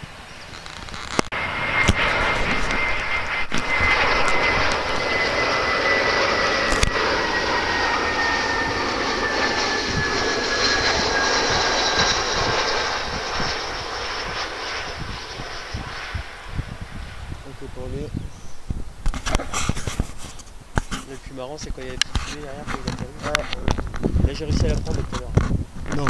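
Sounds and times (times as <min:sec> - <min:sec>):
high jet engine whine: 0:00.0 - 0:26.0
jet airliner flying past: 0:00.0 - 0:26.0.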